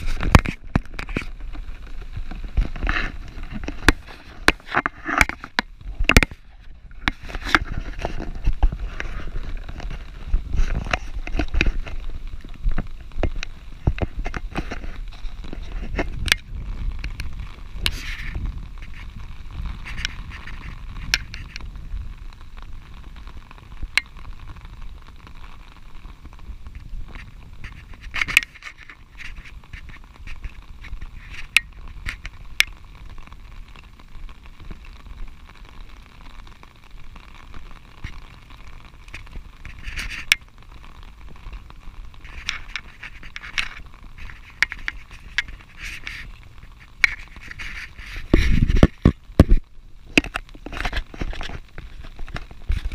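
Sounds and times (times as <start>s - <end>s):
rain hiss: 0.0s - 52.9s
raindrops ticking on umbrella: 0.0s - 52.9s
wind rumble on microphone: 0.0s - 52.9s.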